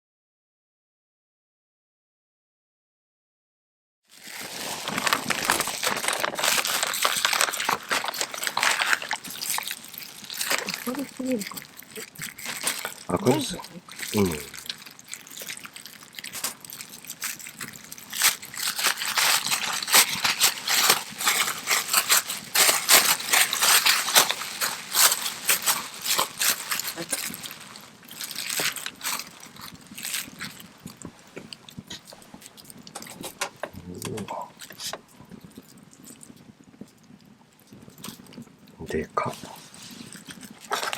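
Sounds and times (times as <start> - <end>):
campfire crackling and popping: 4.2 - 39.0.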